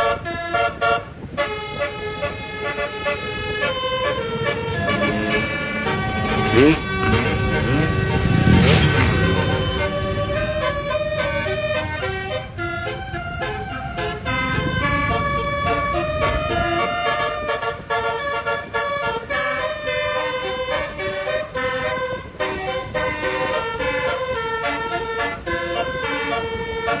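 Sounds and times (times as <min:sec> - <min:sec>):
bus trumpet horns playing a tune: 0:00.0 - 0:27.0.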